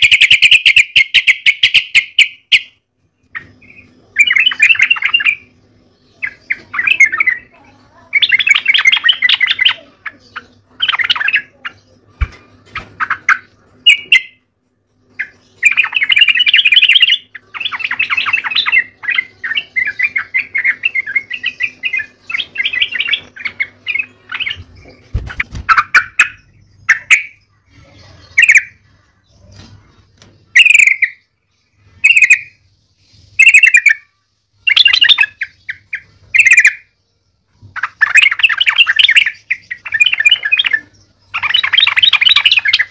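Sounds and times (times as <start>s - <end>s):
bird chattering song: 0.0s - 42.9s.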